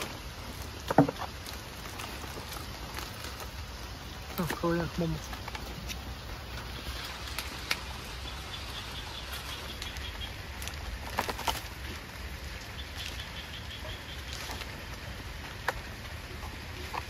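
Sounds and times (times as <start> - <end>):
palm fronds rustling: 0.0 - 17.0
steady hiss: 0.0 - 17.0.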